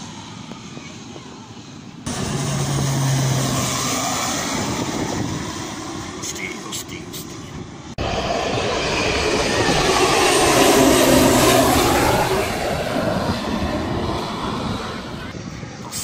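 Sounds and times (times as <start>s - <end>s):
propeller plane passing overhead: 0.0s - 16.0s.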